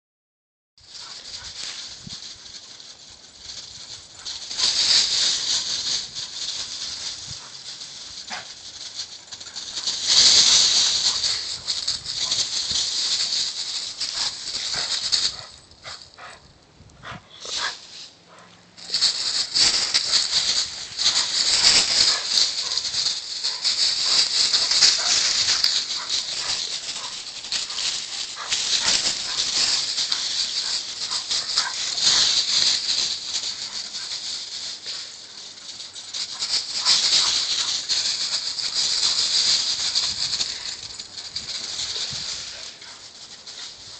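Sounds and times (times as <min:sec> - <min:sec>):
dry leaves crunching underfoot: 0:00.8 - 0:16.0, 0:18.8 - 0:43.9.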